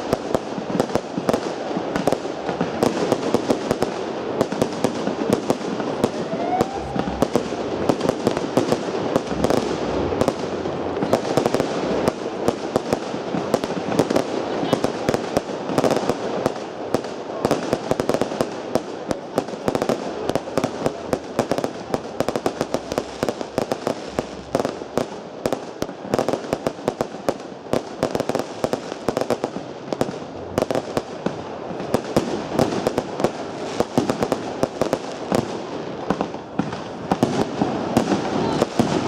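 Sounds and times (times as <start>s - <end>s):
fireworks bangs: 0.0s - 39.0s
fireworks crackling: 0.0s - 39.0s.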